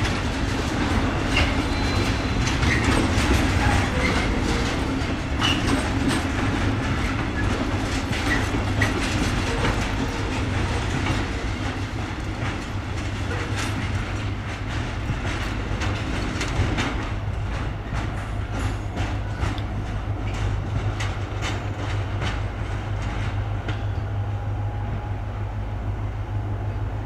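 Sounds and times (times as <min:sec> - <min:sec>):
wheels clicking over rail joints: 0:00.0 - 0:24.0
freight train rolling: 0:00.0 - 0:27.0.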